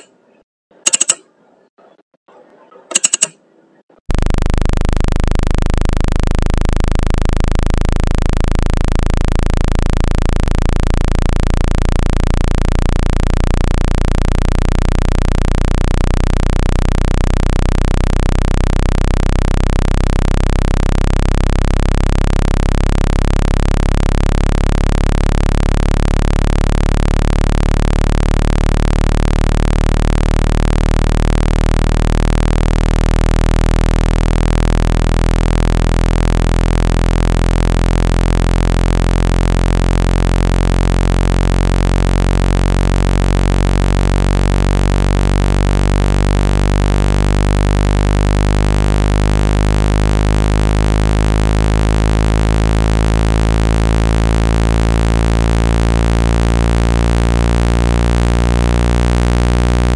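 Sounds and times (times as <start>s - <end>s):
low-pitched synthesized drone: 4.1s - 59.9s.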